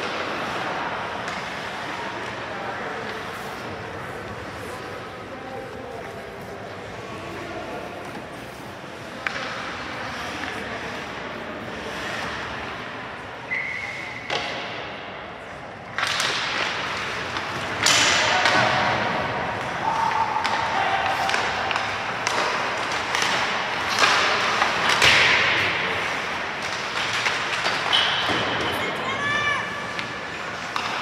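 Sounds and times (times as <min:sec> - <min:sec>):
puck and sticks clacking: 0:00.0 - 0:04.8, 0:07.9 - 0:12.9, 0:14.2 - 0:15.0, 0:15.8 - 0:29.0, 0:29.6 - 0:31.0.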